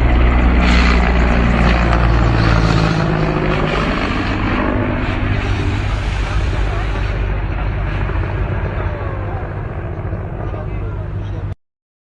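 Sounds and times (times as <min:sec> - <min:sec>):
loud engine running: 0:00.0 - 0:11.6.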